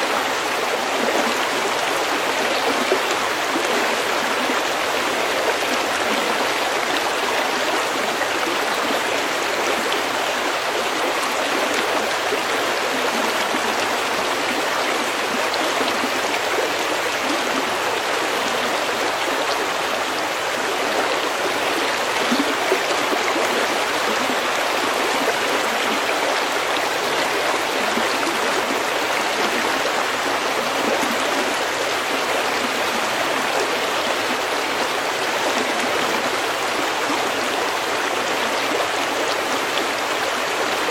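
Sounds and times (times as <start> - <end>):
stream babbling over pebbles: 0.0 - 40.9.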